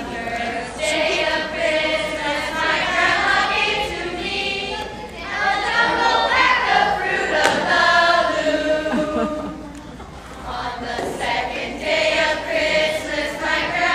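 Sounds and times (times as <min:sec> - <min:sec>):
people speaking: 0:00.0 - 0:13.9
voices singing together: 0:00.0 - 0:13.9.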